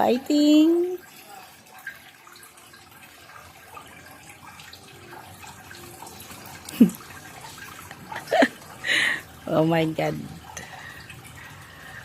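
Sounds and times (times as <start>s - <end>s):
water running: 0.0s - 12.0s.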